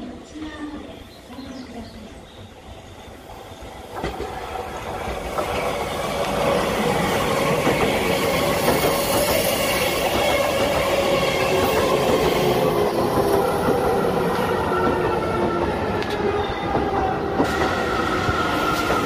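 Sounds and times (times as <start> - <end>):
train whine: 0.0 - 19.0
electric train wheel rumble: 1.4 - 19.0.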